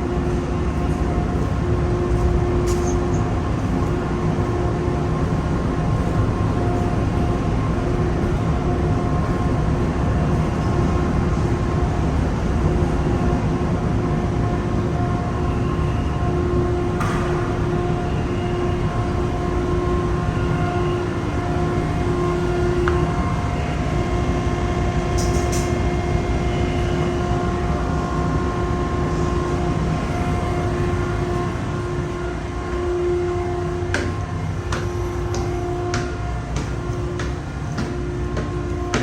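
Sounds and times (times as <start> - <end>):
low engine rumble: 0.0 - 39.0.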